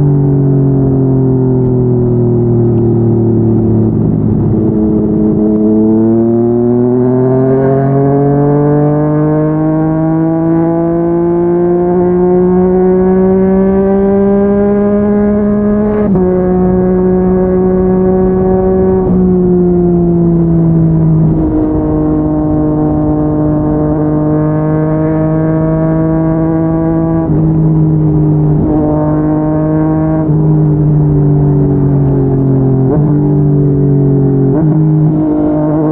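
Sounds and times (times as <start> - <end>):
motorcycle engine under throttle: 0.0 - 35.9.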